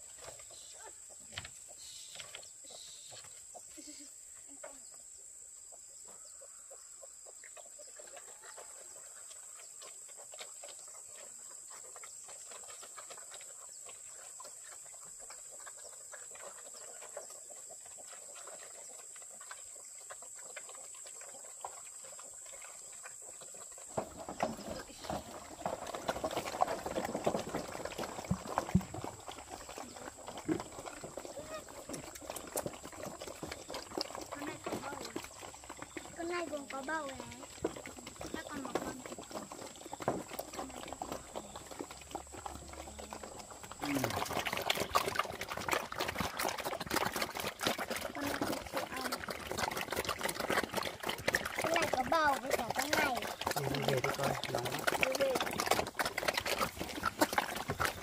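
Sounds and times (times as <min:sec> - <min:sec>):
farm animals calling: 0:00.0 - 0:58.0.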